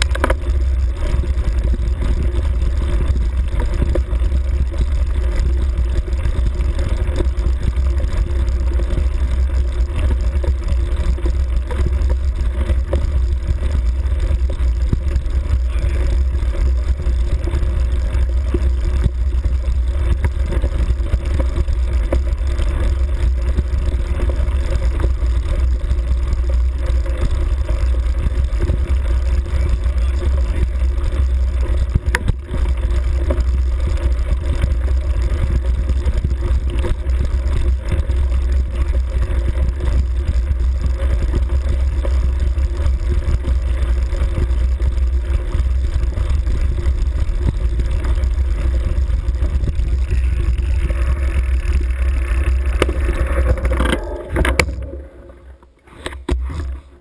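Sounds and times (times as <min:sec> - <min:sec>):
vehicle rumble on track: 0:00.0 - 0:57.0.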